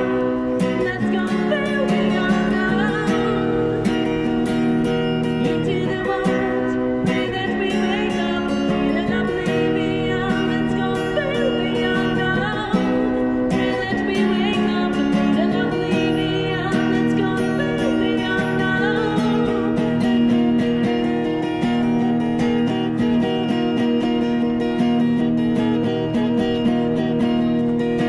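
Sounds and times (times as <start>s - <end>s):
strummed acoustic guitar: 0.0s - 28.0s
woman singing: 0.0s - 28.0s.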